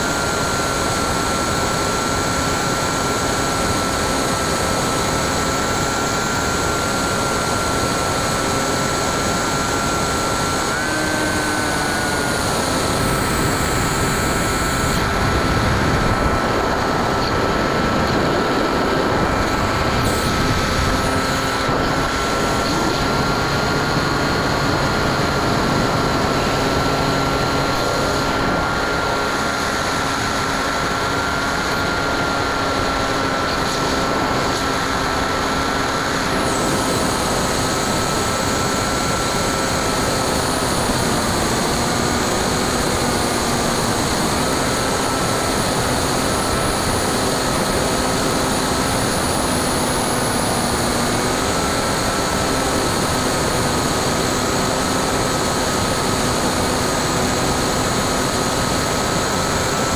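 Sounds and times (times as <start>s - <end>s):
electric motor high whine: 0.0s - 59.9s.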